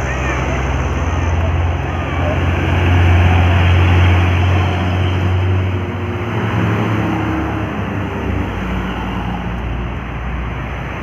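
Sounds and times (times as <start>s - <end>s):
large vehicle engine drone: 0.0s - 11.0s
tyre and road noise: 0.0s - 11.0s.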